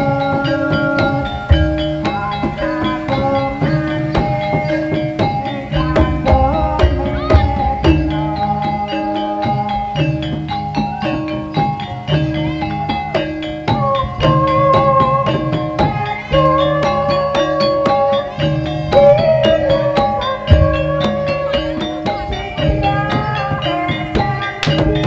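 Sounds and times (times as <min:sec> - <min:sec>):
drums playing: 0:00.0 - 0:25.0
held melody line: 0:00.0 - 0:25.0.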